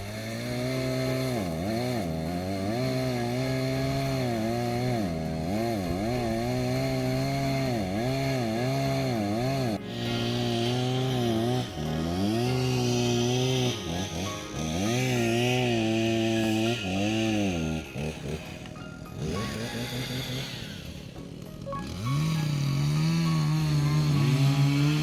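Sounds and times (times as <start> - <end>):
chainsaw cutting logs: 0.0 - 25.0.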